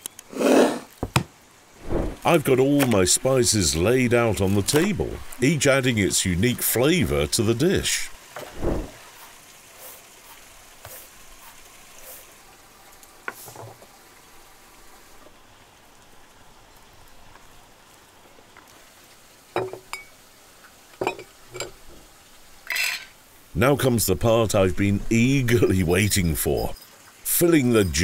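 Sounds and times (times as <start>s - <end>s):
soft steady hiss: 0.0s - 28.0s.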